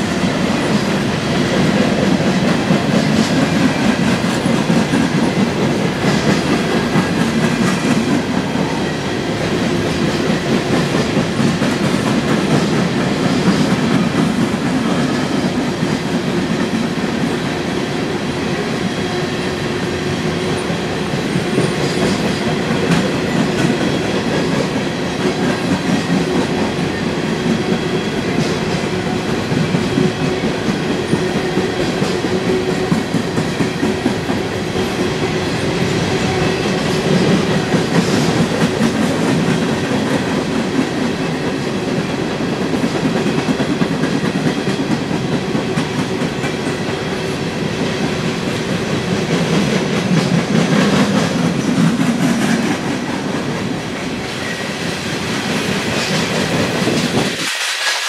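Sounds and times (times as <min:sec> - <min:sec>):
freight train rumbling and rattling: 0:00.0 - 0:58.0.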